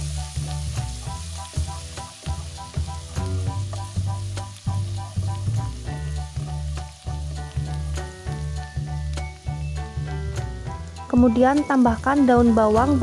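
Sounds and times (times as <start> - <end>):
garlic sizzling in a wok: 0.0 - 13.0
music with repeating bass line: 0.0 - 13.0.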